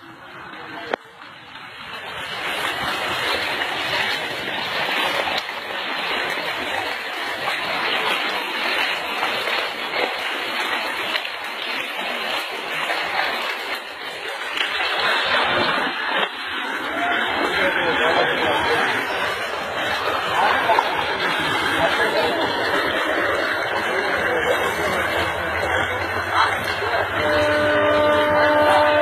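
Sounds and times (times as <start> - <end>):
water gushing and splashing: 0.0 - 29.0.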